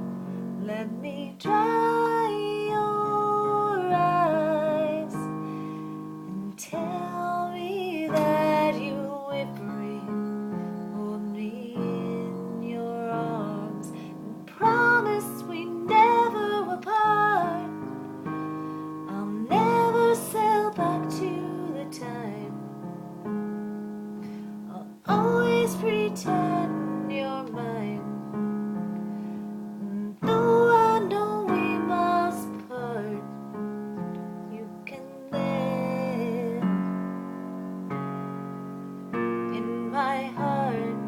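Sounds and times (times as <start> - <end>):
woman singing a slow song: 0.0 - 23.0, 24.6 - 28.6, 29.6 - 37.5, 39.1 - 41.0.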